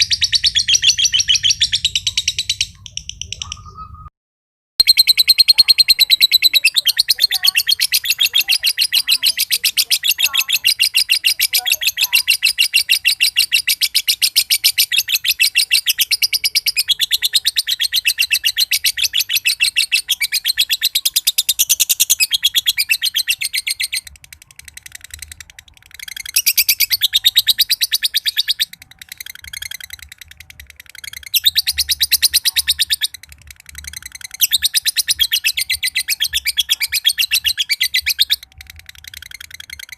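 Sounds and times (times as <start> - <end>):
lovebird rattling chatter: 4.9 - 39.9.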